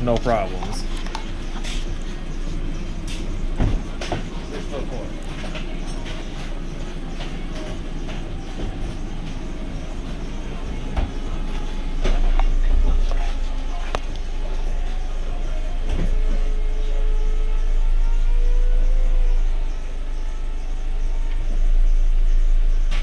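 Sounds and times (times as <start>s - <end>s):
electro-hydraulic pump whine: 0.0s - 23.0s.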